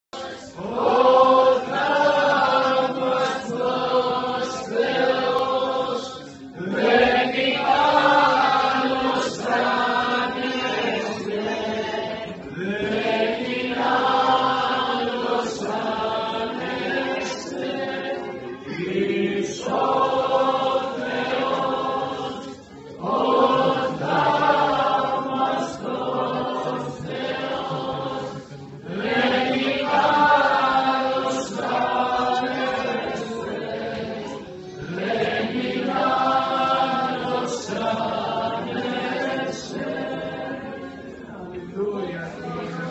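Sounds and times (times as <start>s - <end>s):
congregation singing a chant: 0.0s - 42.9s.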